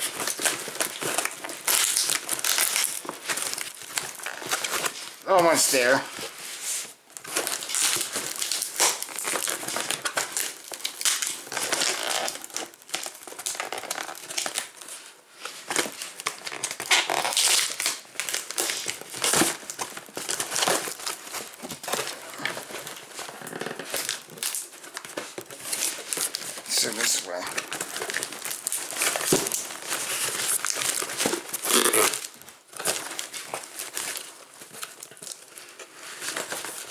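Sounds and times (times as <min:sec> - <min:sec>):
packaging crinkling and rustling: 0:00.0 - 0:36.9.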